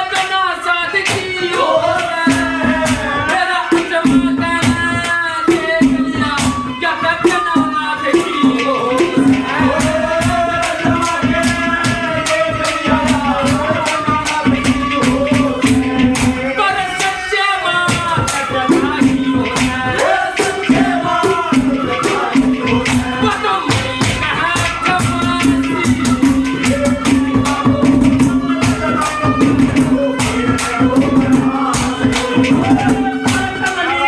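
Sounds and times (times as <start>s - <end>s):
percussion beat with jingling: 0.0s - 34.0s.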